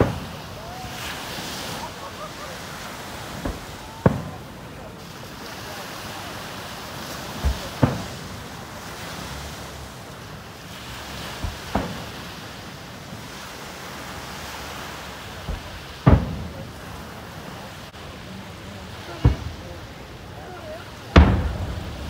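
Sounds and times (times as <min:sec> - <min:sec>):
distant firework booms: 0:00.0 - 0:09.2, 0:11.0 - 0:14.4, 0:15.0 - 0:18.2, 0:18.8 - 0:22.0.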